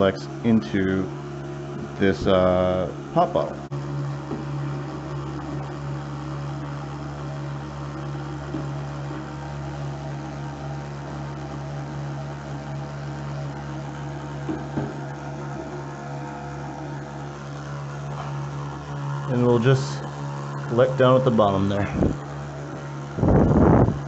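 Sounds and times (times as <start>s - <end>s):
small water pump humming: 0.0s - 24.0s.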